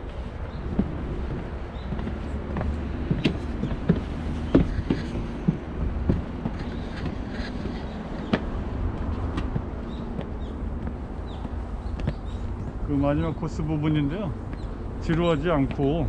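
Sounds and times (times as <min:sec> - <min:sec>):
footsteps on wooden deck: 0:00.0 - 0:16.0.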